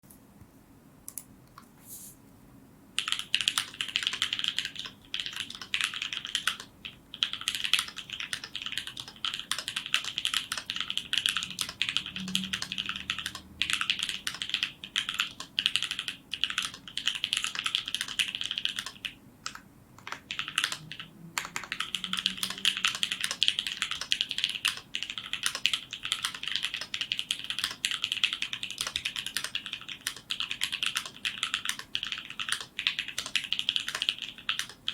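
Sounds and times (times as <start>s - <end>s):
mechanical keyboard typing: 3.0s - 34.9s.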